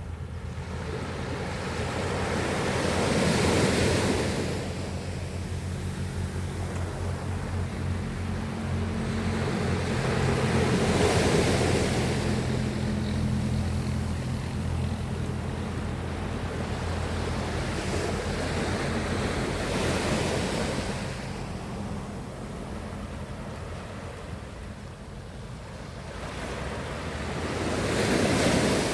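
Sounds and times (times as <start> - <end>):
sea waves breaking: 0.0 - 28.9.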